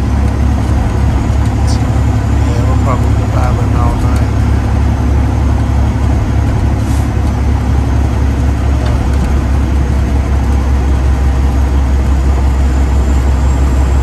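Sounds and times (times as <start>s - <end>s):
road noise: 0.0s - 14.0s
truck diesel engine drone: 0.0s - 14.0s.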